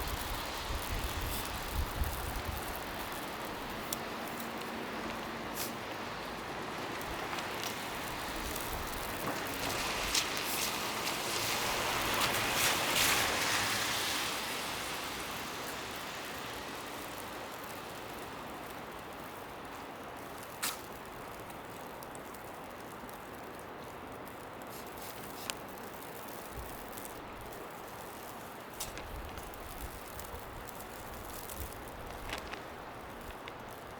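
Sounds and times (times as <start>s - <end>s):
distant traffic on wet road: 0.0s - 33.9s.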